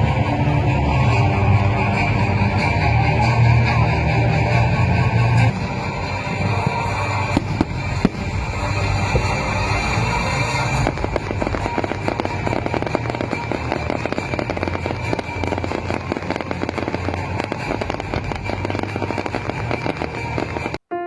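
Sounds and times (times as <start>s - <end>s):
low rumble: 0.0s - 20.6s
fireworks crackling: 1.0s - 21.0s.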